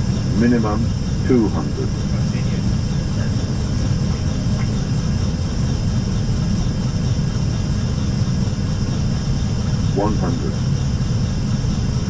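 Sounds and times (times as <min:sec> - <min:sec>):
cockpit airflow and engine rumble: 0:00.0 - 0:12.0.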